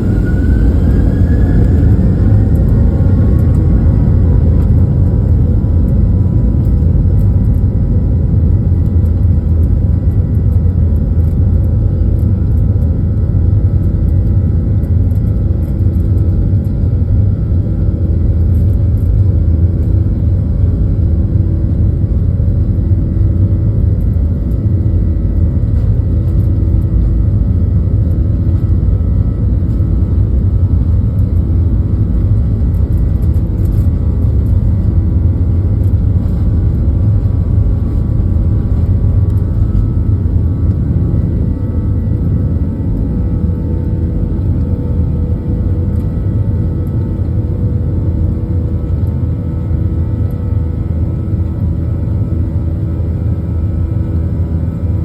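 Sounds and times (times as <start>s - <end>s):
faint pulsing hum: 0.0s - 55.0s
jet engine rumble in cabin: 0.0s - 55.0s.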